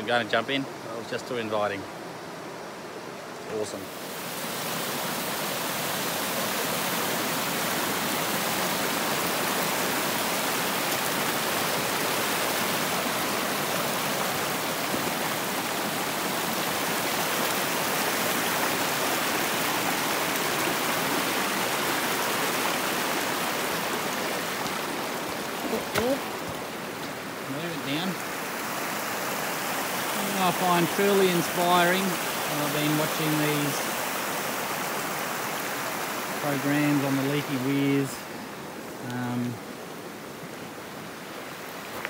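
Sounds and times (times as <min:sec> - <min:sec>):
creek water flowing: 0:00.0 - 0:42.0.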